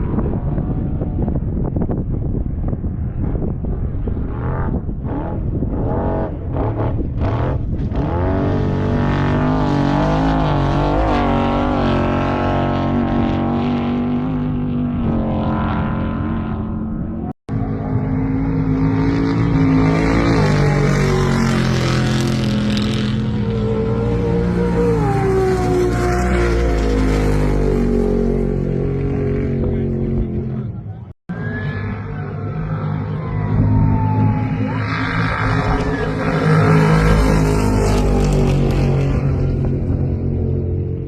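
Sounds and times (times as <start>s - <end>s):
race vehicle engines revving: 2.5s - 41.0s.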